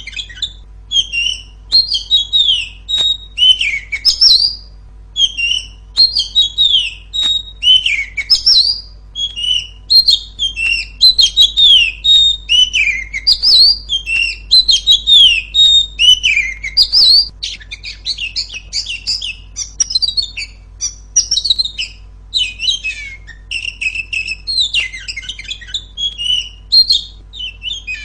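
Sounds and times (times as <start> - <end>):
bird singing whistled phrases: 0.0 - 28.0.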